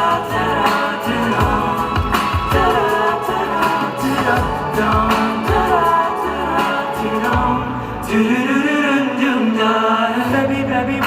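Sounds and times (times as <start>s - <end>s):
live pop music: 0.0s - 11.0s
person singing: 0.0s - 11.0s.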